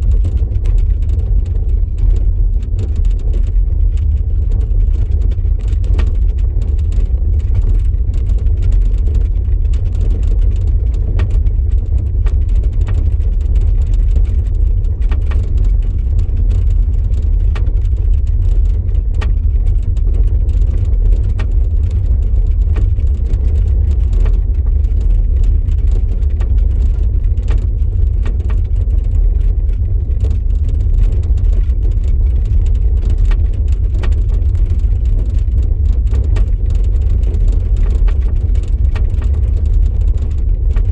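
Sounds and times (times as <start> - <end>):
electric car low rumble: 0.0 - 40.9
faint irregular clicks and ticks: 0.0 - 40.9.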